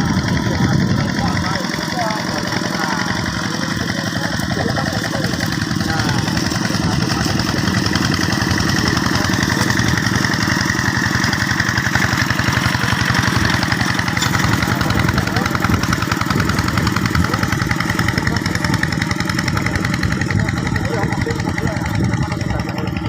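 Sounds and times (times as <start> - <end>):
diesel engine chugging: 0.0 - 23.0.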